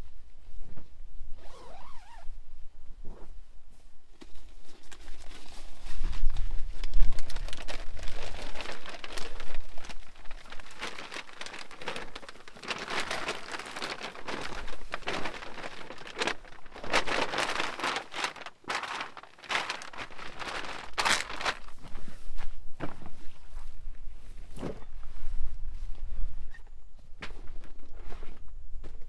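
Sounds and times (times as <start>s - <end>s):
crinkling and rustling: 3.0s - 29.0s.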